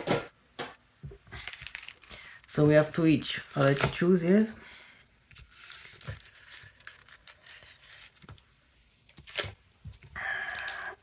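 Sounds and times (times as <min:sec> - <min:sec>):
foil packs crinkling and rustling: 0:01.2 - 0:04.5, 0:05.3 - 0:11.0.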